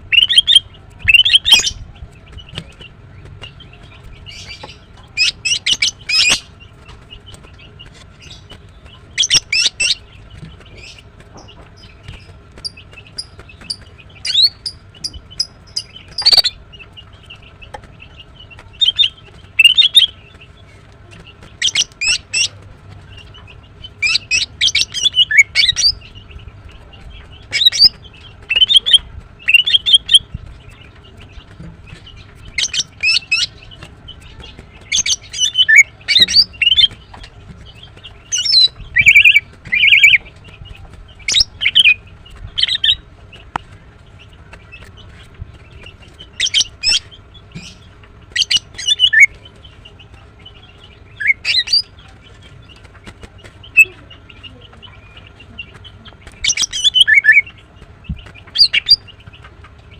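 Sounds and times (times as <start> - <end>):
bird chirping and warbling: 0.0 - 59.9.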